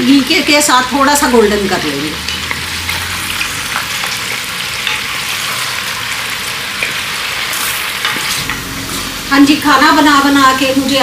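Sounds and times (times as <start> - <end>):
chicken sizzling in frying fat: 0.0 - 11.0.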